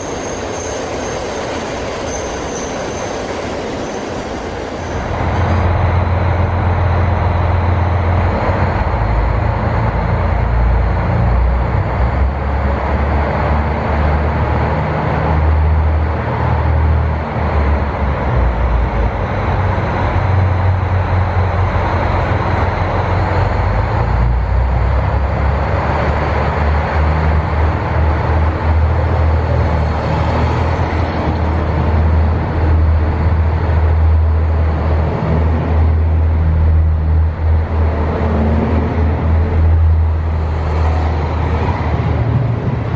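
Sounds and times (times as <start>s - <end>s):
diesel railcar engine humming: 0.0s - 42.9s.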